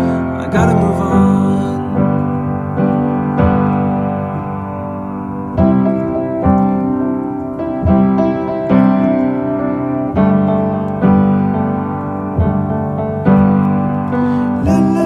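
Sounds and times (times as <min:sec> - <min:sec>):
piano playing sustained chords: 0:00.0 - 0:15.0.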